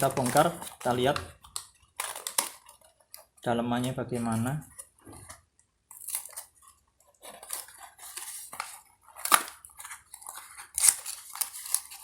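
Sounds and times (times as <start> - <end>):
packaging rustling and clattering: 0.0 - 12.0.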